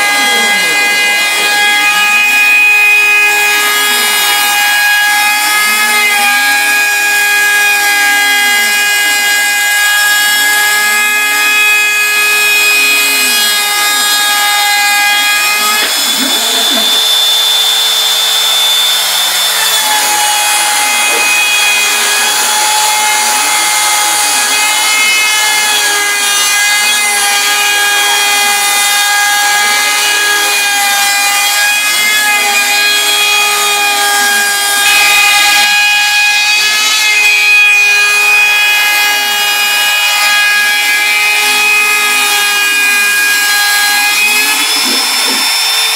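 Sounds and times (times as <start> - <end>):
router cutting wood: 0.0 - 45.9
router whining: 0.0 - 45.9.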